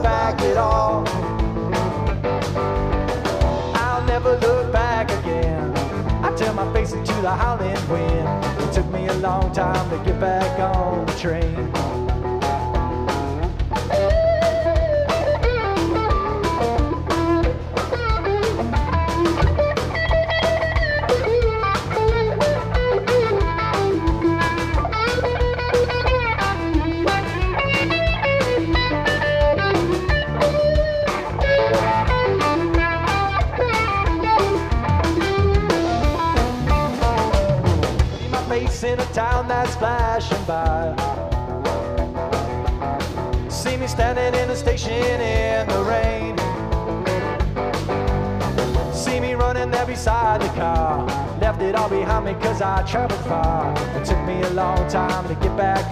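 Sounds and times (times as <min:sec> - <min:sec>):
drum kit: 0:00.0 - 0:55.9
electric bass: 0:00.0 - 0:55.9
electric guitar lead lines: 0:00.0 - 0:55.9.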